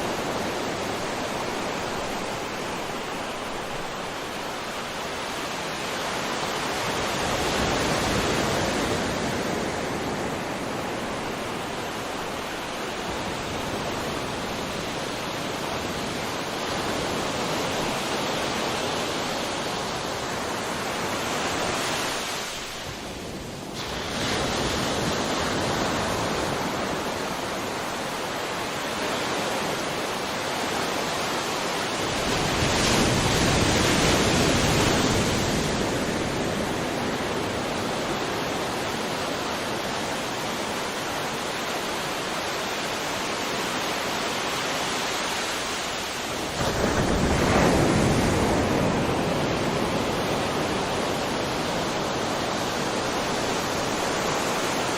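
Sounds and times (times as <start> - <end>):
sea waves surging onto shore: 0.0 - 54.9.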